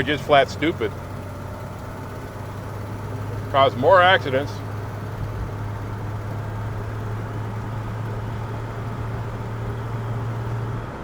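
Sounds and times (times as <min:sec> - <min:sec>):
low engine drone: 0:00.0 - 0:11.0
road noise: 0:00.0 - 0:11.0.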